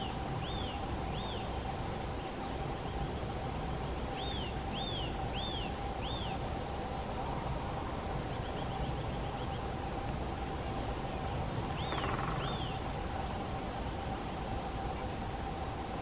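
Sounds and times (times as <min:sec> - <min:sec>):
steady hum and low rumble: 0:00.0 - 0:16.0.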